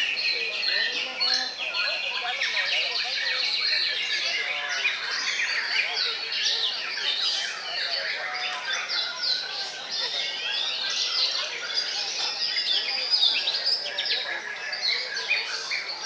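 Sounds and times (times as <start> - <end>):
birds singing whistles and trills: 0.0 - 16.0.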